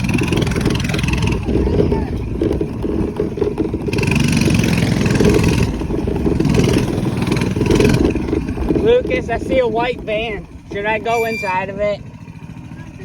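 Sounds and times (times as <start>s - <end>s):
minibike engine running: 0.0s - 13.0s.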